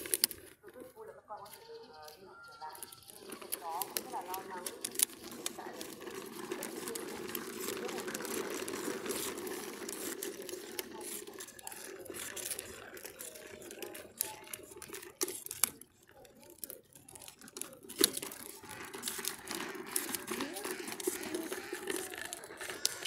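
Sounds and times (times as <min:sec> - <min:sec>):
plastic wheels rolling on concrete: 0:00.0 - 0:23.0.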